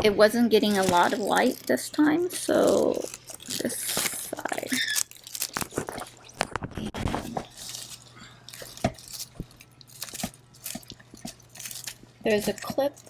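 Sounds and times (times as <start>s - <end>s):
hands rustling: 0.5s - 13.0s.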